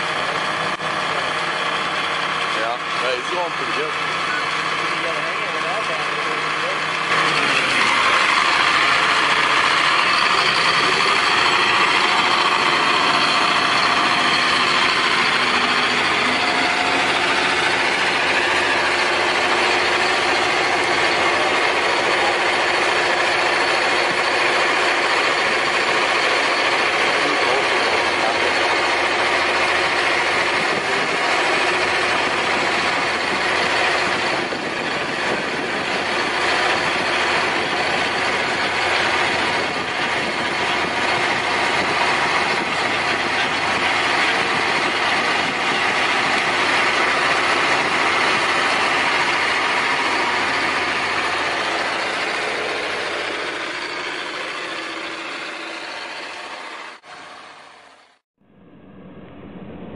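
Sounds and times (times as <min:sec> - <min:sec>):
plow blade pushing snow: 0:00.0 - 0:58.2
diesel tractor engine running: 0:00.0 - 0:59.9.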